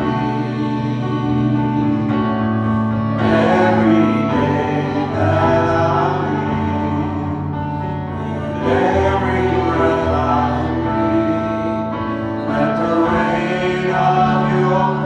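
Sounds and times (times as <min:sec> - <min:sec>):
gospel voices singing: 0:00.0 - 0:15.0
sustained chords: 0:00.0 - 0:15.0.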